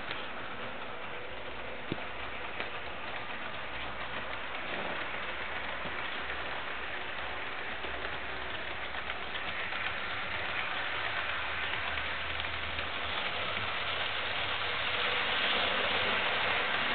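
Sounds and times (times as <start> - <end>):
model train rattling on track: 0.0 - 16.9.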